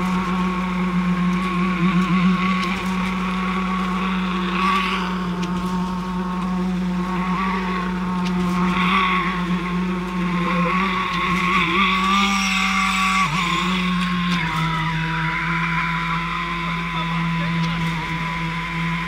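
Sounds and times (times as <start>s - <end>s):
low machine hum: 0.0s - 19.0s
wavering machine whine: 0.0s - 19.0s.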